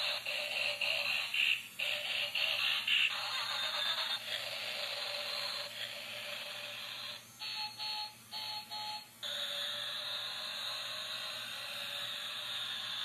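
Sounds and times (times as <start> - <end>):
tinny electronic toy music: 0.0 - 13.0.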